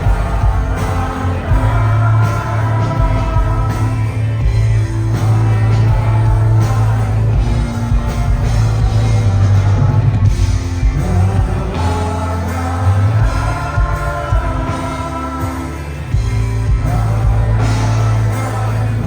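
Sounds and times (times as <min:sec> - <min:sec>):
live rock band playing: 0:00.0 - 0:19.0
voices singing: 0:00.0 - 0:19.0.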